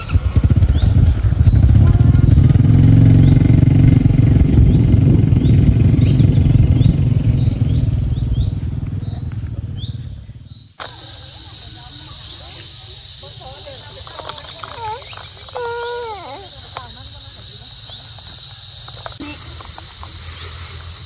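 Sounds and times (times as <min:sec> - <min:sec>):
small engine running: 0:00.0 - 0:12.0, 0:13.2 - 0:21.0
faint bird chirps: 0:00.0 - 0:20.7.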